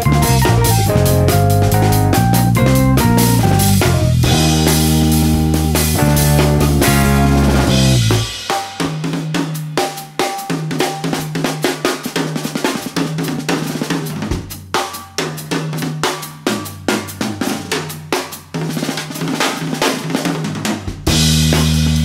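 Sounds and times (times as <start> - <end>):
drum kit played fast: 0.0 - 22.0.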